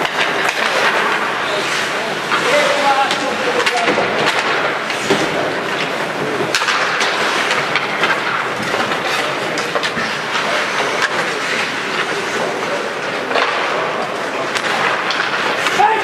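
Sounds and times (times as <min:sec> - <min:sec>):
skates scraping on ice: 0:00.0 - 0:16.0
sticks and puck clacking: 0:00.0 - 0:16.0.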